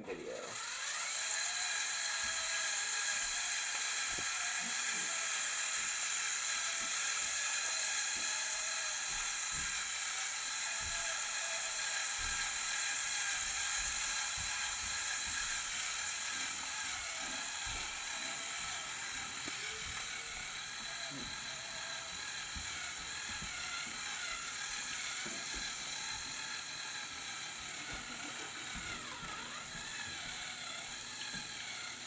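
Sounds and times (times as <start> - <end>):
motor and gear whine: 0.2 - 32.0.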